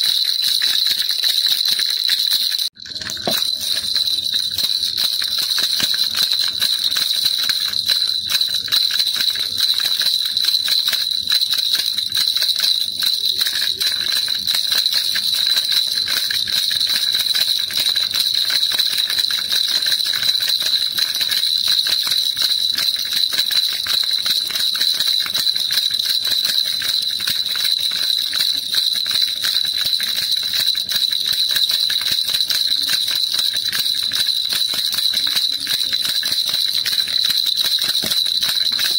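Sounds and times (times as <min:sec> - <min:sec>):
baby rattle jingling: 0:00.0 - 0:38.9.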